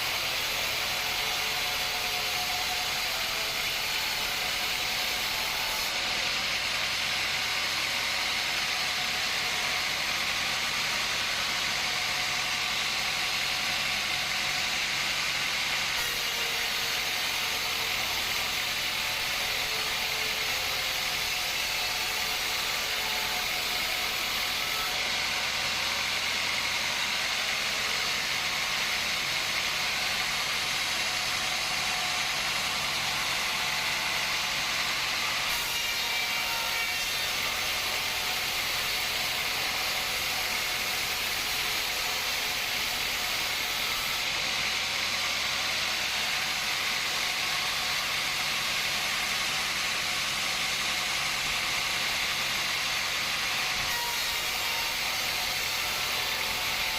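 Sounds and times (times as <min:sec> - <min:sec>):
woodworking machinery hissing: 0:00.0 - 0:56.9.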